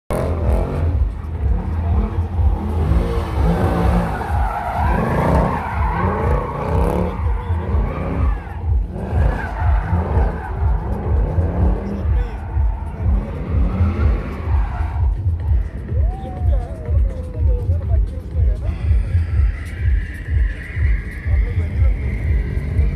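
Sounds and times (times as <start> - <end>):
car engine revving: 0.1 - 22.9
tyres skidding and squealing: 0.1 - 22.9.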